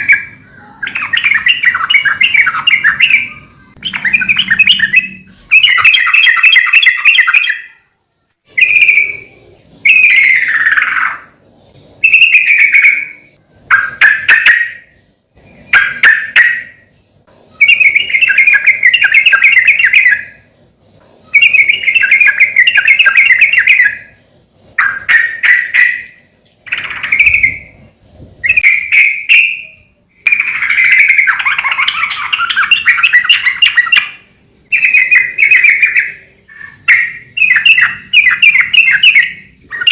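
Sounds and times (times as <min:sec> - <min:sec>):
bulbul singing: 0:00.0 - 0:07.9, 0:08.5 - 0:39.9.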